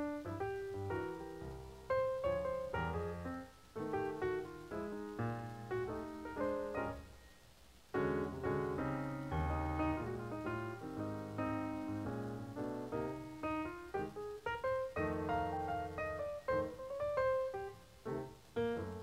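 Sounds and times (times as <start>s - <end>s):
background piano music: 0.0s - 19.0s.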